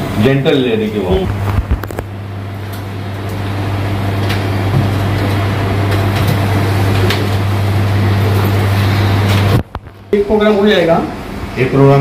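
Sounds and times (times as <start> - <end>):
low electrical hum: 0.0 - 12.0
rushing mechanical noise: 1.0 - 12.0.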